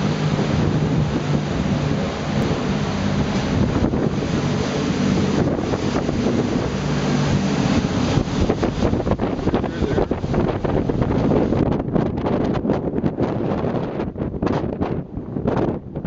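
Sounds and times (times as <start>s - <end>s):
low engine hum: 0.0s - 13.1s
churning water from boat wake: 0.0s - 16.0s
wind buffeting microphone: 0.0s - 16.0s.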